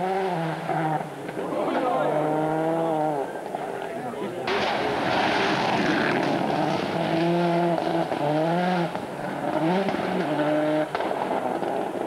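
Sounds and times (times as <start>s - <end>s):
rally car engine at full throttle: 0.0s - 12.0s
tyre and road noise: 0.0s - 12.0s.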